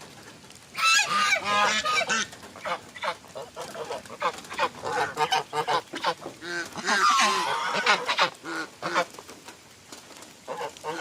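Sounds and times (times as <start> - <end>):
geese honking: 0.7 - 9.2, 10.4 - 11.0.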